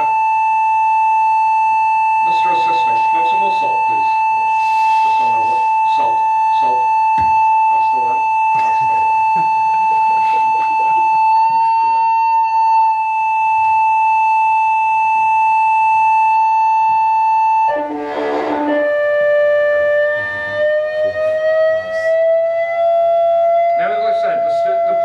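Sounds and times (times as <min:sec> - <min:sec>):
loudspeaker test tone: 0:00.0 - 0:25.0.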